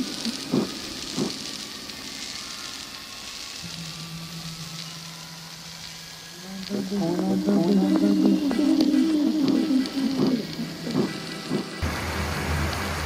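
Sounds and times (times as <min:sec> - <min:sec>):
heavy rain: 0:00.0 - 0:13.0
low steady hum: 0:00.0 - 0:13.0.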